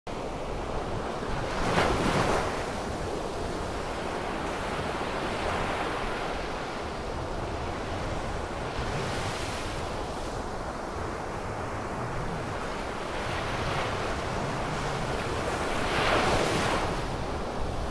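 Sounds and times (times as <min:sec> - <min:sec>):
wind on microphone: 0:00.2 - 0:17.9.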